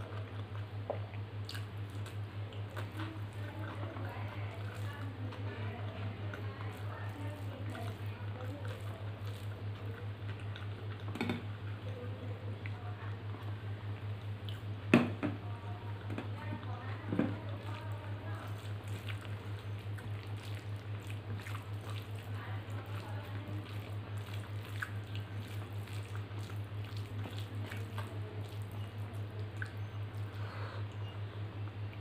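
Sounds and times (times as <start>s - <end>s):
fingers squishing wet food: 0.0s - 14.8s, 15.8s - 32.0s
chewing and mouth sounds: 0.0s - 14.9s, 17.4s - 32.0s.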